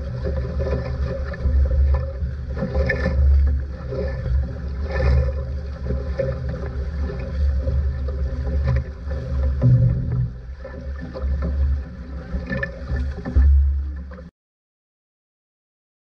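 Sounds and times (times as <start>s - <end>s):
water splashing along boat hull: 0.0s - 14.3s.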